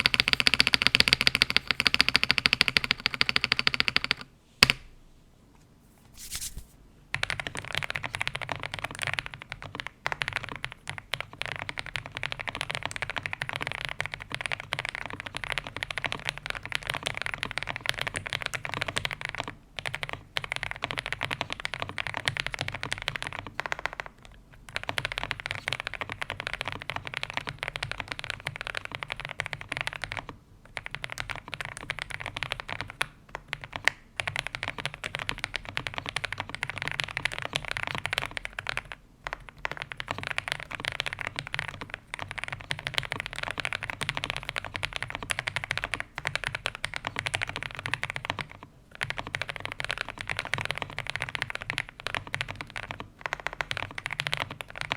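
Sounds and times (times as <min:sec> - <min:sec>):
mechanical keyboard typing: 0:00.0 - 0:04.8, 0:07.1 - 0:54.9.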